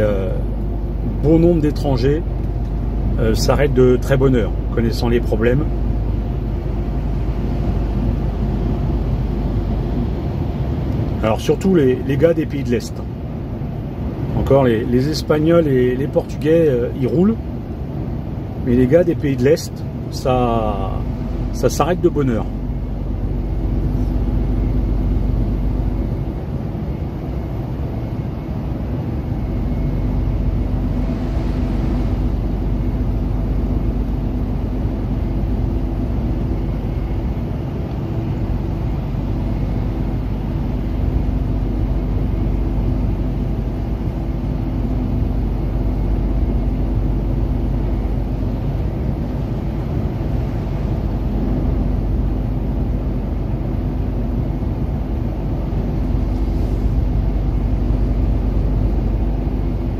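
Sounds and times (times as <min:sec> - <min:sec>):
truck engine and tyre drone: 0:00.0 - 0:59.9.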